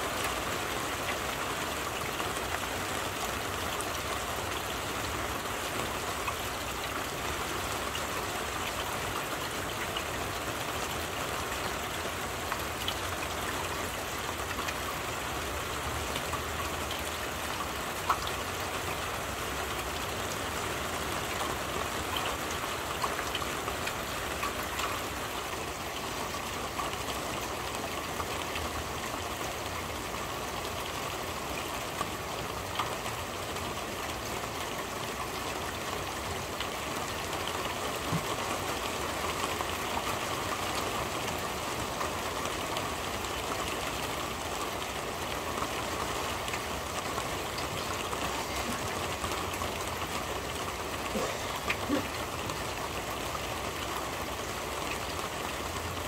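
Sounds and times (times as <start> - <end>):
rain on a corrugated roof: 0.0 - 56.0.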